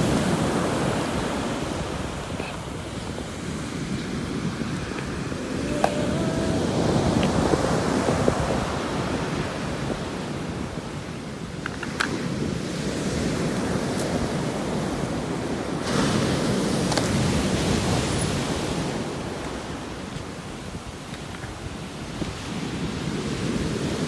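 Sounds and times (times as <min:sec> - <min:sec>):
sea waves breaking on shore: 0:00.0 - 0:24.0.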